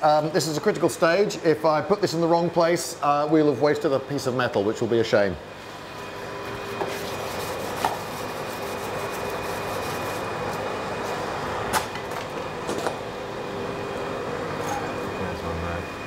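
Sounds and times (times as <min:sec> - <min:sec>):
forge air blower rushing: 0:00.0 - 0:16.0.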